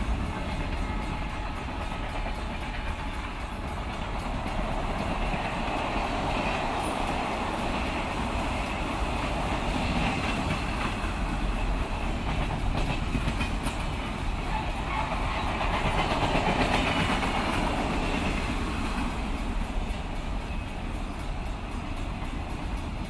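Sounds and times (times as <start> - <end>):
train cars rumbling: 0.0 - 23.0
wheels clacking over rail joints: 0.0 - 23.0.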